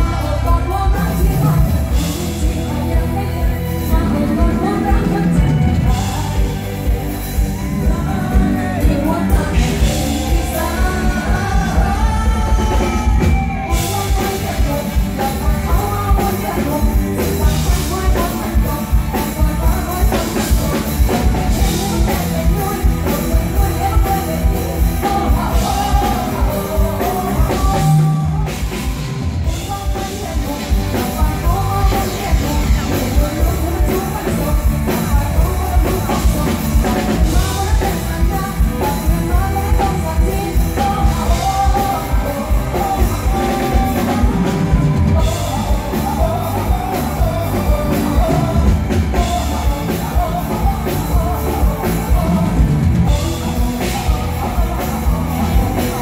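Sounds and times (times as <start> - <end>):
band playing: 0.0 - 56.0
steady drum beat: 0.0 - 56.0
woman singing into a microphone: 0.0 - 56.0.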